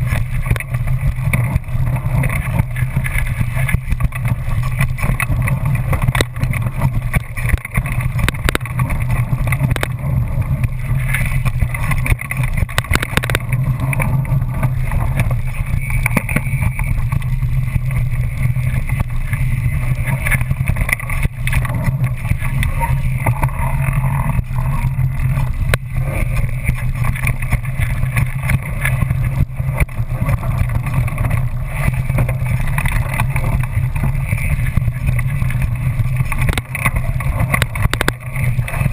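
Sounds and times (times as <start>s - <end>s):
bike rattles and knocks: 0.0s - 38.9s
wind rumbling over camera: 0.0s - 38.9s.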